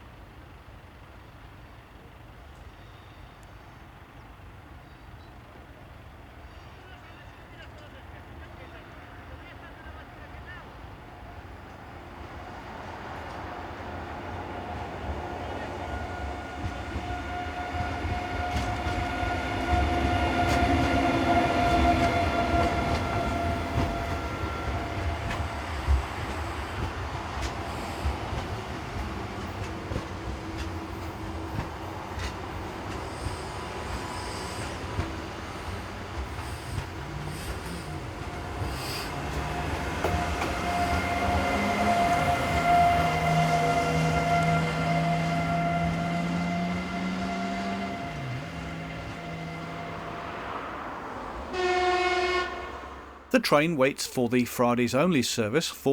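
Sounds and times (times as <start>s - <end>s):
train whine and rumble: 0.0s - 53.3s.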